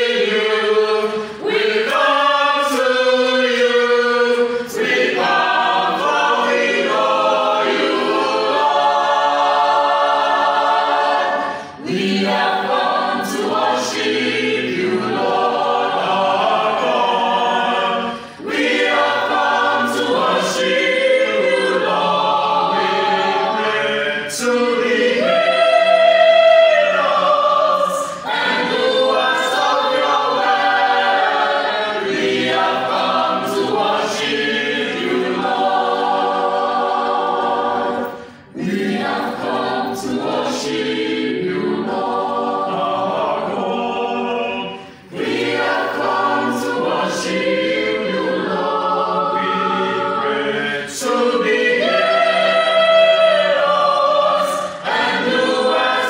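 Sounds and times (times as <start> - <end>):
mixed choir singing unaccompanied: 0.0 - 56.0.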